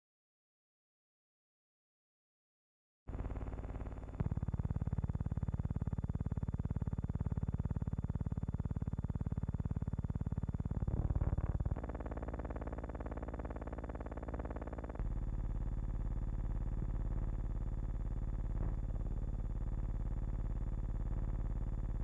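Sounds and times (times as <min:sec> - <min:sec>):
distorted electrical buzz: 0:03.1 - 0:22.0.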